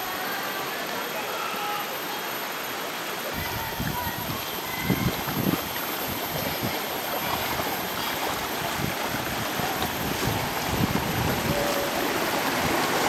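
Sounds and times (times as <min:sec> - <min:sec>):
water rushing down channel: 0:00.0 - 0:13.0.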